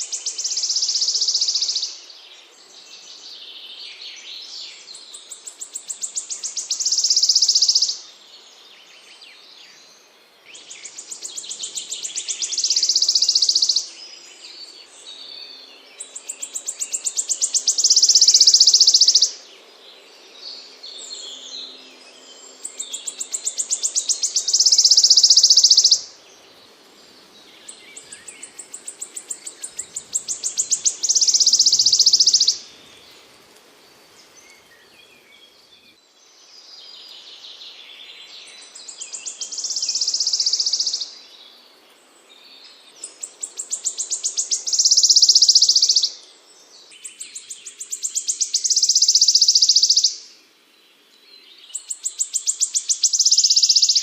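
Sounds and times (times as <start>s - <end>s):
songbird singing with buzzy trill: 0.0s - 54.0s.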